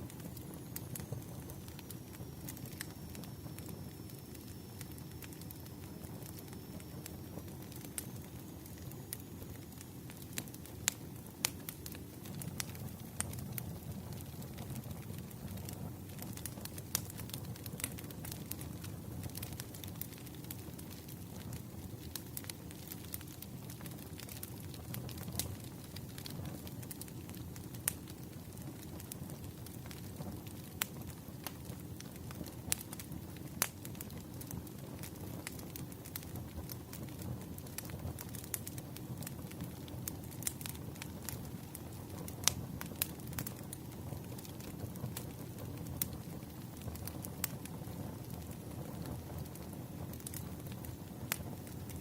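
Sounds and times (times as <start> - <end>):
fire pops and snaps: 0.0 - 52.0
low rumble of burning: 0.0 - 52.0.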